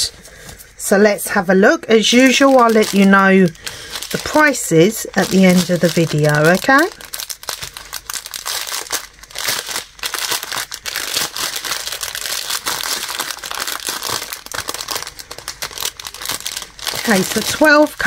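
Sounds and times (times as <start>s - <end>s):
plastic bag crinkling: 1.2s - 18.0s.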